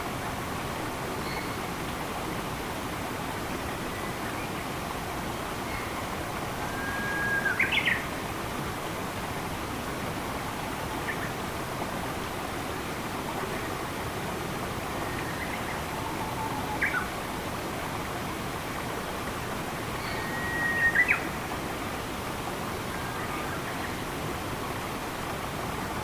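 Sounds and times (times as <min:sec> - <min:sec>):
flowing water: 0:00.0 - 0:26.0.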